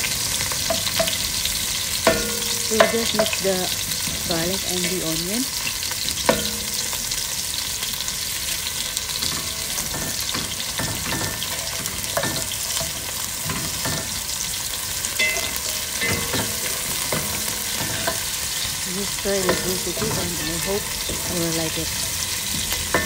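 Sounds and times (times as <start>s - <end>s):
onion and garlic sizzling in oil: 0.0s - 23.0s
spatula scraping and knocking pan: 0.4s - 7.4s, 8.0s - 23.0s.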